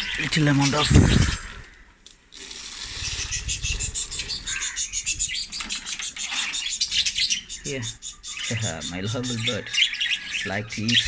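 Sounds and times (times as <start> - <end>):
budgerigars chattering: 0.0 - 1.8, 2.8 - 11.0.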